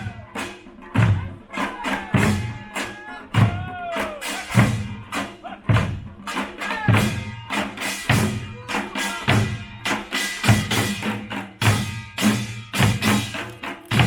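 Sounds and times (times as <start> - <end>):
fast light percussion strikes: 0.0 - 14.0
heavy drum strokes: 0.0 - 14.0.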